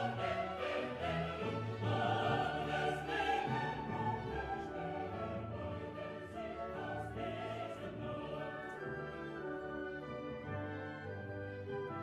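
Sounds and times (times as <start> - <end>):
orchestral music with choir: 0.0 - 12.0.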